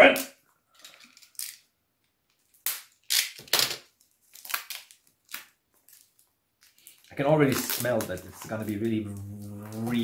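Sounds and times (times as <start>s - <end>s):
plastic candy packaging crinkling: 0.2s - 10.0s.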